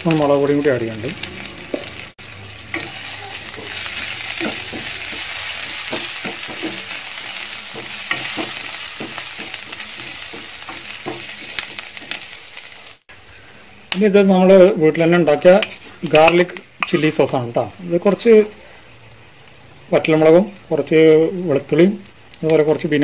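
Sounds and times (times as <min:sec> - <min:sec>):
spices sizzling in hot oil: 0:00.0 - 0:23.0.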